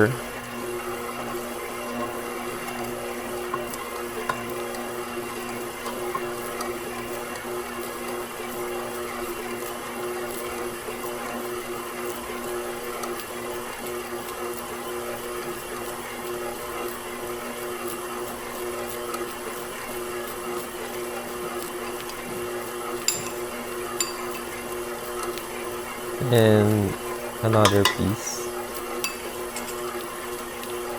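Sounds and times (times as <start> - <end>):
stand mixer motor humming: 0.0 - 27.8, 28.4 - 30.9.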